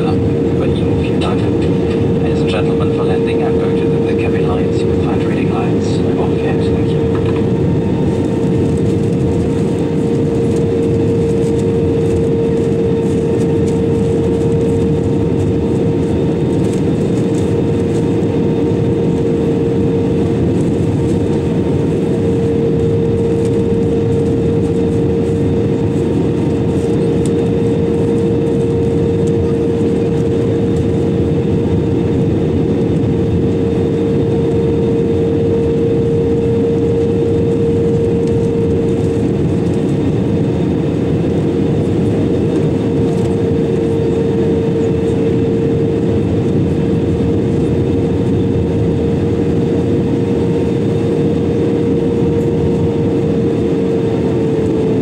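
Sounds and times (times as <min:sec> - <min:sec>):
airplane cabin engine and airflow noise: 0:00.0 - 0:55.0
constant hum-like tone: 0:00.0 - 0:55.0.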